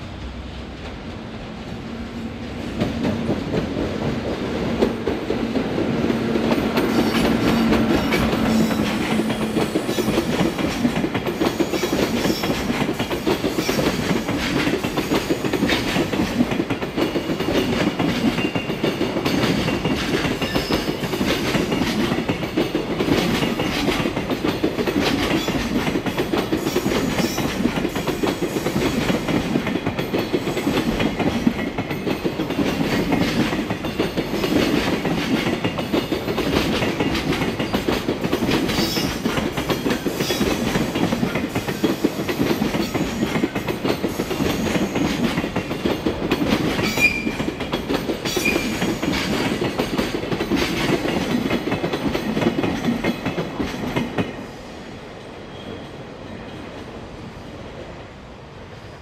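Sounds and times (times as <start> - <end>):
train wheels clattering over rail joints: 2.7 - 54.4.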